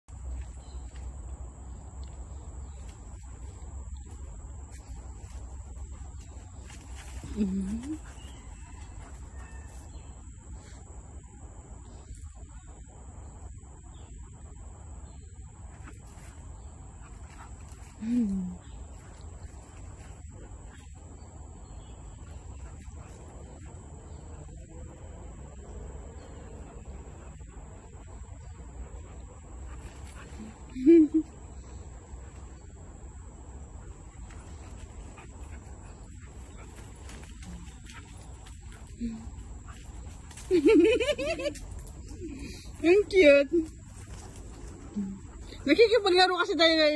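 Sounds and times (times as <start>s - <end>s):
crickets trilling: 0.1s - 46.9s
insects chirring: 0.1s - 46.9s.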